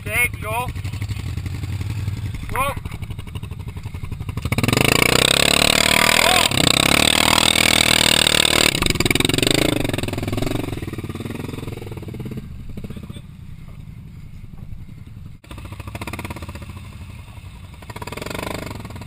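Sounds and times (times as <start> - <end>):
atv engine revving: 0.0 - 19.0
tires spinning in mud: 0.8 - 19.0.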